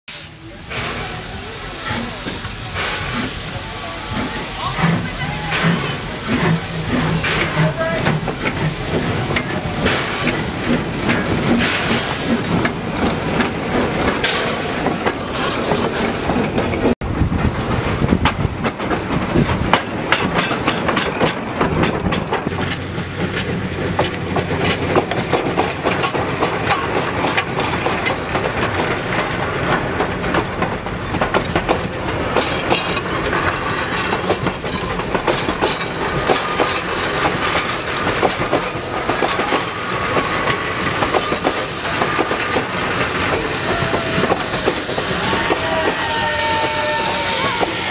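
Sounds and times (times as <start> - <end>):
train wheels clicking over rail joints: 0.5 - 47.9.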